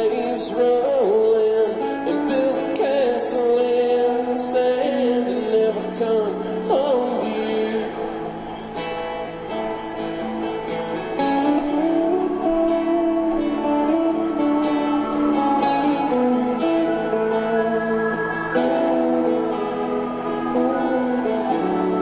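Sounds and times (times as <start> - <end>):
strummed acoustic guitar: 0.0 - 22.0
sliding lead melody line: 1.4 - 22.0.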